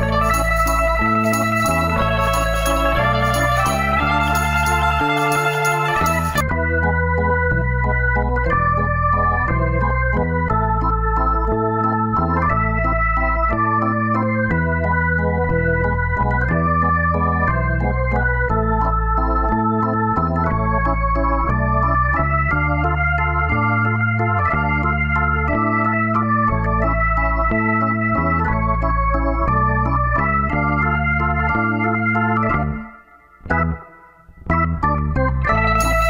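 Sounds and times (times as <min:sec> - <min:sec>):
bass line: 0:00.0 - 0:36.0
keyboard tune with organ-like notes: 0:00.0 - 0:36.0.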